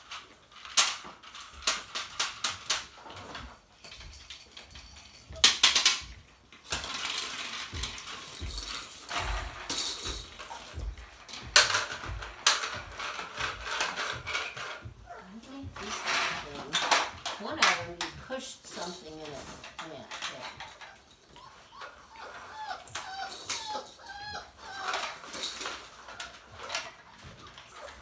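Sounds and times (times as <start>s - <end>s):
plastic toys clattering on concrete: 0.0s - 28.0s
puppies scuffling: 0.0s - 28.0s.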